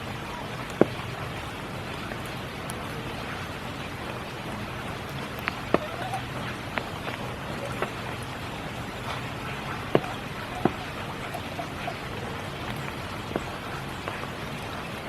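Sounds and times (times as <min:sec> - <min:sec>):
heavy raindrops tapping: 0:00.0 - 0:15.0
rain falling: 0:00.0 - 0:15.0.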